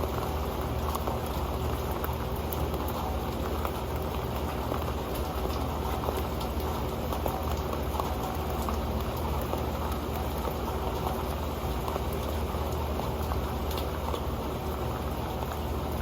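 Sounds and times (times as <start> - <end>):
rain falling on a metal pan: 0.0 - 16.0.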